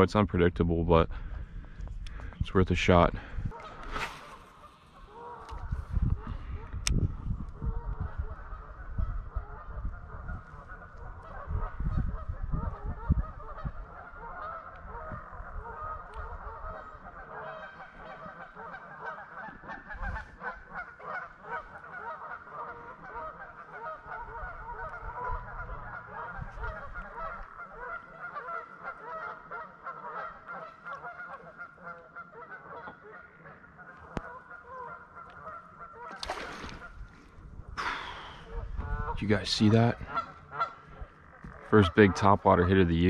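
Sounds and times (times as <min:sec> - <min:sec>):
geese honking: 0:03.5 - 0:06.7, 0:07.6 - 0:37.1, 0:38.2 - 0:43.0.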